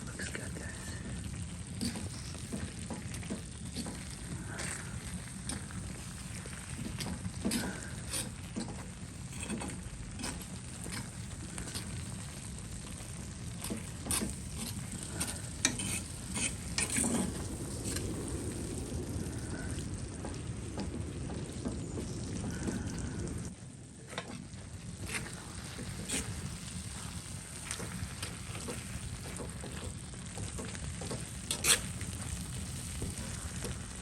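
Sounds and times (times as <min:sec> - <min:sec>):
crackling pops: 0:00.0 - 0:34.0
food sizzling in a pan: 0:00.0 - 0:34.0.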